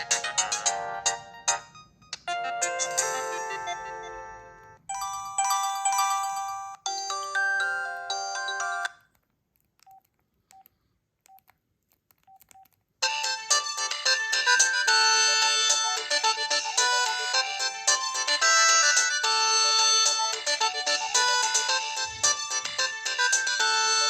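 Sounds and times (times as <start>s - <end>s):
polyphonic ringtone melodies: 0.0s - 9.0s, 13.0s - 24.0s.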